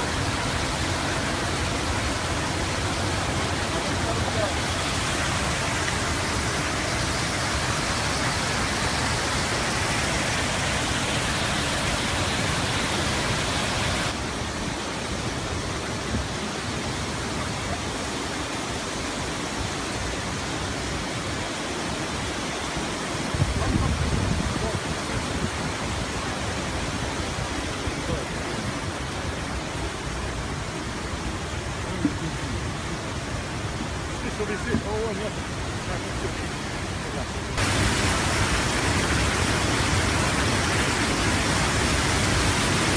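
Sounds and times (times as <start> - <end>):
waterfall and rapids rushing: 0.0 - 42.9.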